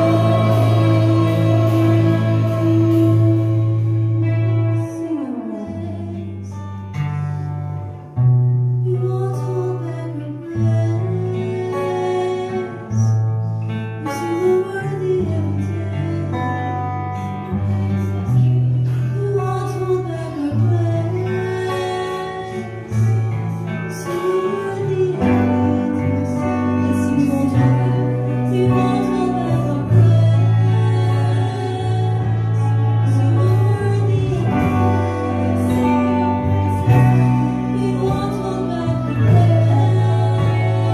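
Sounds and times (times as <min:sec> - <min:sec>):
person singing: 0:00.0 - 0:07.1, 0:14.0 - 0:40.9
held bass notes: 0:00.0 - 0:12.6, 0:15.1 - 0:40.9
guitar: 0:00.0 - 0:40.9.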